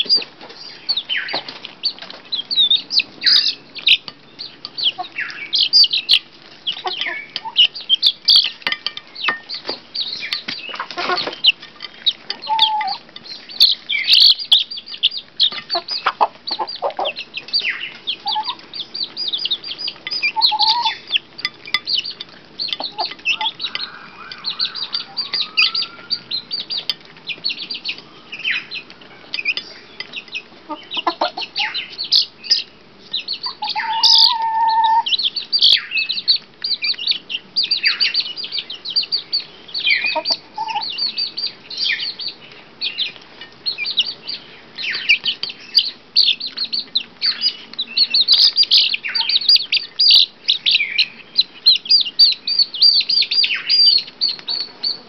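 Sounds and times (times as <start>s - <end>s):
baby chicken peeping: 0.0s - 55.0s.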